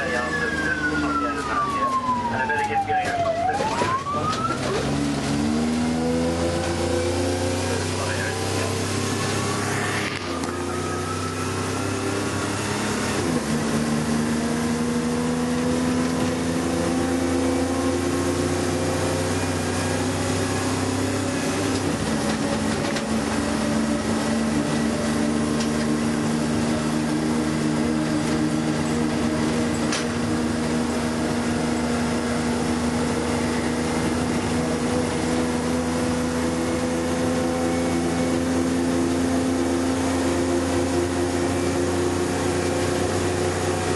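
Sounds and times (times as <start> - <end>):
engine drone: 0.0 - 43.9.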